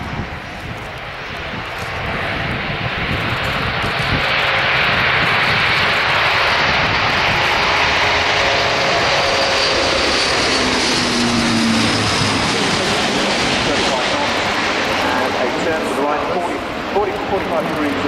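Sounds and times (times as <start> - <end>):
turboprop engines at takeoff power: 0.0 - 18.0.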